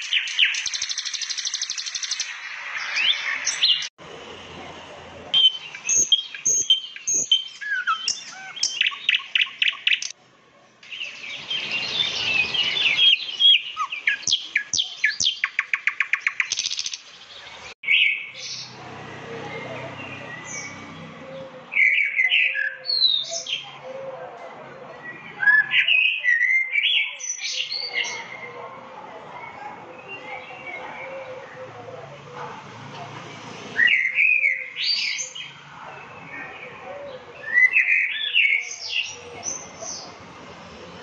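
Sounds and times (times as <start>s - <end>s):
birds chirping and singing: 0.0s - 3.9s, 5.3s - 10.2s, 10.8s - 28.7s, 29.3s - 32.0s, 33.8s - 41.0s.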